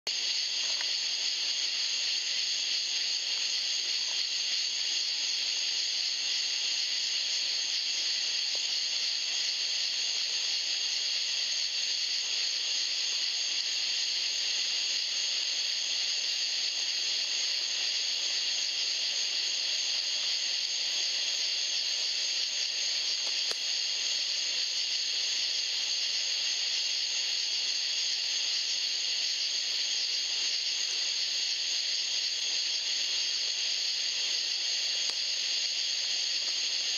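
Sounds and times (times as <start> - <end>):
steady high hiss: 0.1 - 36.9.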